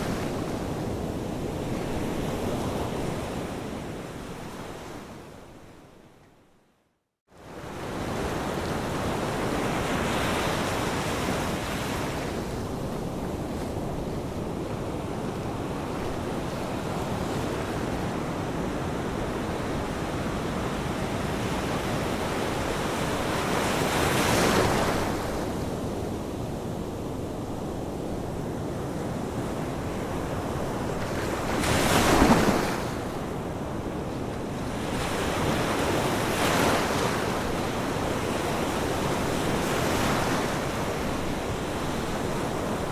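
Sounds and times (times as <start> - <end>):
ocean waves washing on shore: 7.5 - 42.9.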